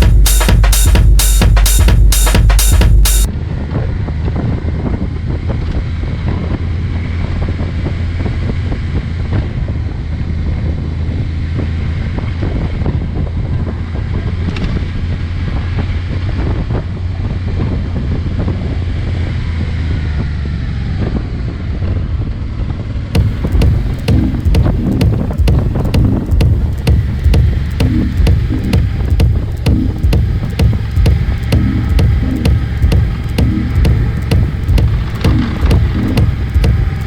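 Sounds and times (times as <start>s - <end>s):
motorcycle engine drone: 0.0s - 37.0s.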